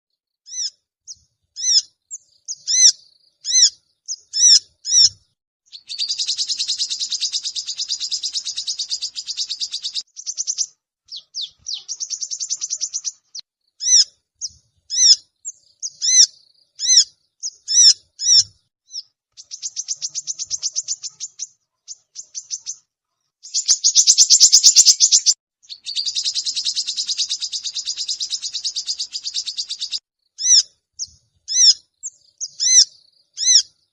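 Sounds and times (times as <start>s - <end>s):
sunbird chirps: 0.5s - 33.9s
sunbird fast trills: 0.5s - 33.9s.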